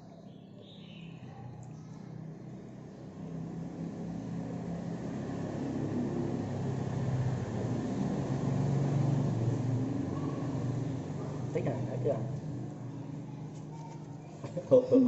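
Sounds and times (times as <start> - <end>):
vehicle engine hum: 1.6 - 15.0.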